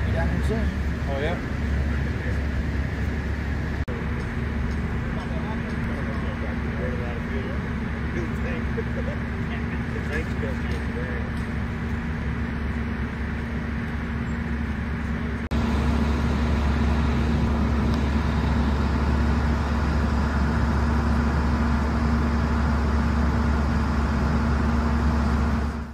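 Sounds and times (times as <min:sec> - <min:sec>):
vehicle engines idling: 0:00.0 - 0:25.9.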